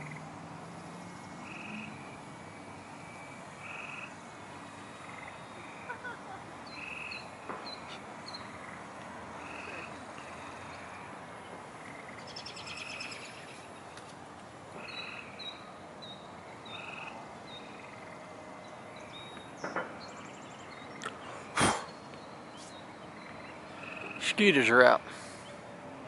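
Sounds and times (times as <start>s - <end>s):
background hiss: 0.0s - 26.0s
wildlife chirps and calls: 1.2s - 25.9s.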